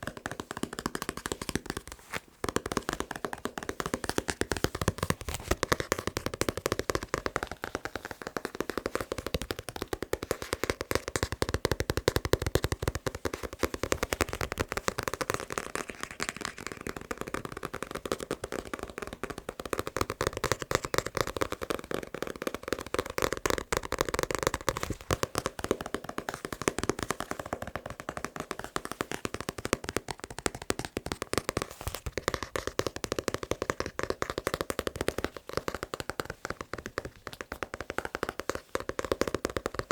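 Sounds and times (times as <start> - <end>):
fingers tapping on a book: 0.0 - 39.9.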